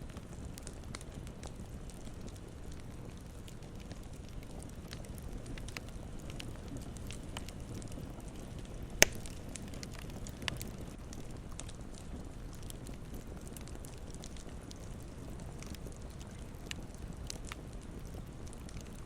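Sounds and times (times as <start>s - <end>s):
campfire crackling: 0.0s - 19.0s
fire popping: 0.0s - 19.0s.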